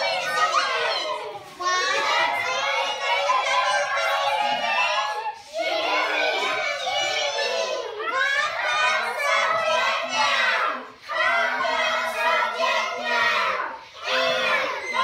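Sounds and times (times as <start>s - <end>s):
children reading aloud in squeaky voices: 0.0s - 15.0s.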